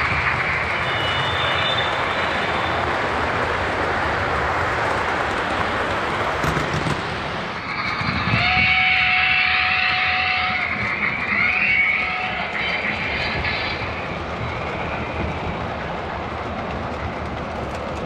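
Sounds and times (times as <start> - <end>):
model steam locomotive running: 0.0 - 18.0.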